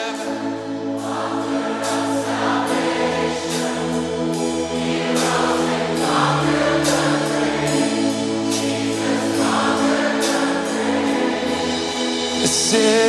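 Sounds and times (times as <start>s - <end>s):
band playing: 0.0s - 13.0s
cymbal crashes: 0.0s - 13.0s
many voices singing: 0.0s - 13.0s.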